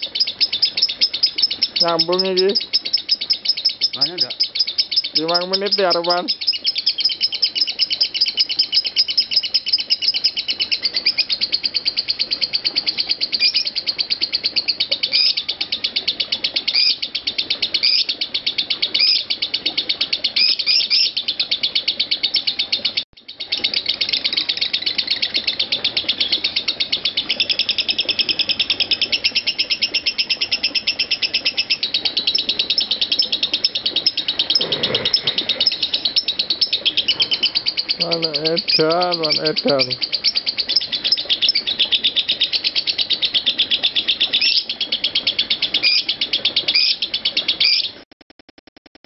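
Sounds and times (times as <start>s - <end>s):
lovebird rapid high chattering: 0.0s - 48.0s.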